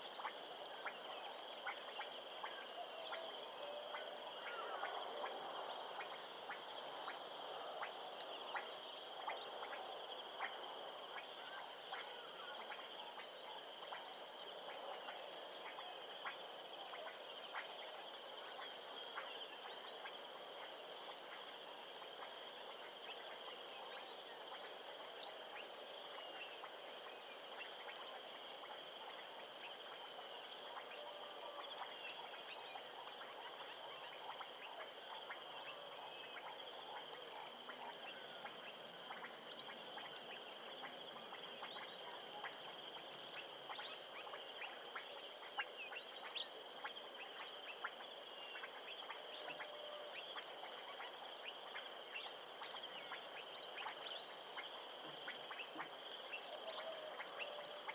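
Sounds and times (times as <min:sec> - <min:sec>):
frogs: 0:00.0 - 0:57.9
insects chirping: 0:00.0 - 0:57.9.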